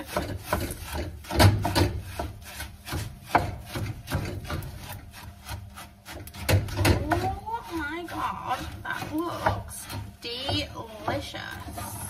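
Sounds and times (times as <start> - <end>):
wooden spoon stirring sticky cereal: 0.0 - 12.0.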